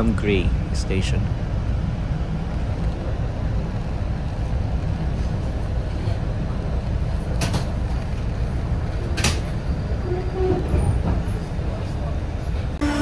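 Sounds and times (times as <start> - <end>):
train car low rumble: 0.0 - 13.0.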